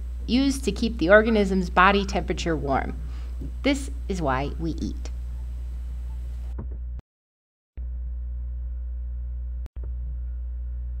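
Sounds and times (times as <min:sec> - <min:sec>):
low electrical hum: 0:00.0 - 0:07.0, 0:07.8 - 0:11.0.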